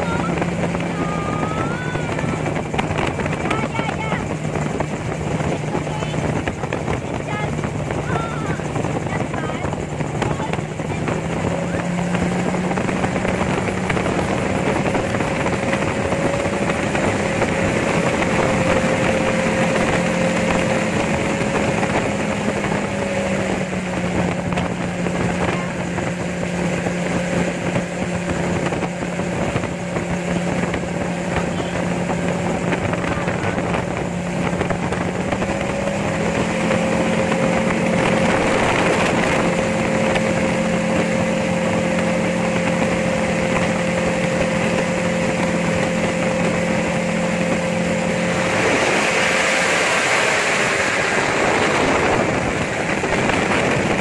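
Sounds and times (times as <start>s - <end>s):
gyrocopter engine and propeller drone: 0.0s - 54.0s
wind rushing: 0.0s - 54.0s.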